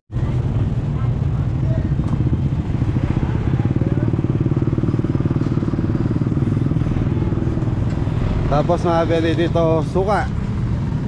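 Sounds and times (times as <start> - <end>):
faint voices: 0.1 - 10.4.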